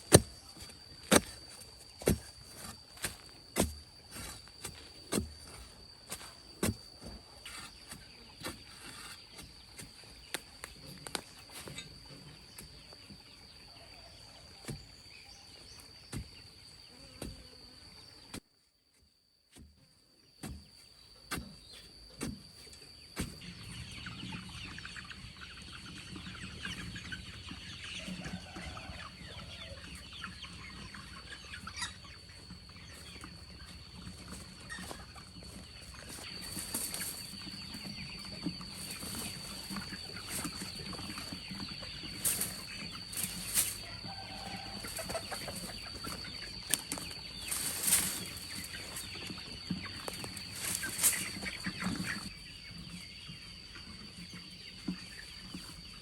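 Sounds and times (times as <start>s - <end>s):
chickens clucking: 0.0s - 18.3s, 19.8s - 56.0s.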